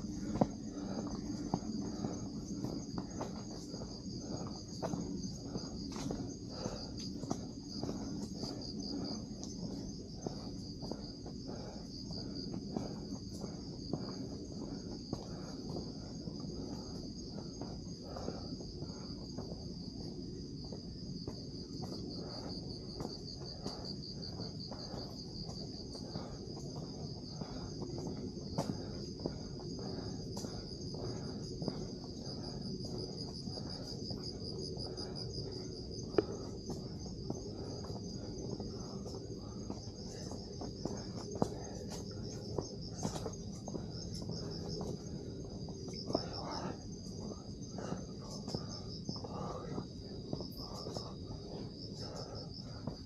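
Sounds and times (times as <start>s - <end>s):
footsteps on a trail: 0.0s - 53.0s
night insects trilling: 0.0s - 53.0s.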